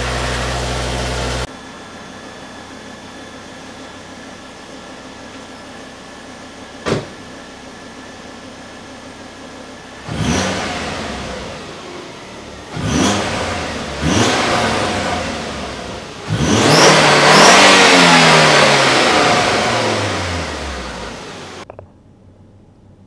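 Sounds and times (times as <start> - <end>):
car engine idling and revving: 0.0 - 21.7.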